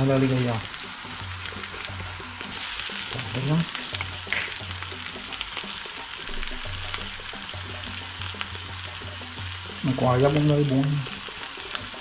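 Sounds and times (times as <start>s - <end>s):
larvae sizzling in hot oil: 0.0s - 12.0s.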